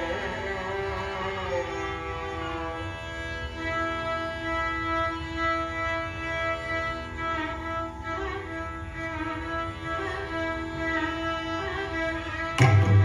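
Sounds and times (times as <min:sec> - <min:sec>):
violin playing slow melody: 0:00.0 - 0:13.0.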